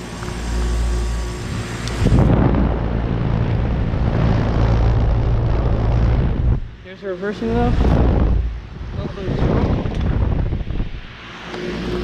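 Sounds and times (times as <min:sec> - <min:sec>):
condenser fan rushing air: 0:00.0 - 0:12.0
heat pump compressor hum: 0:00.0 - 0:12.0.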